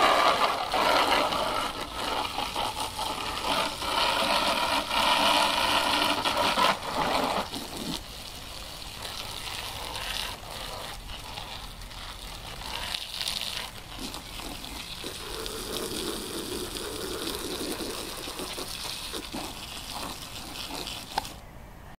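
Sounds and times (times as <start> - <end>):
hose water spraying and splashing: 0.0 - 21.4.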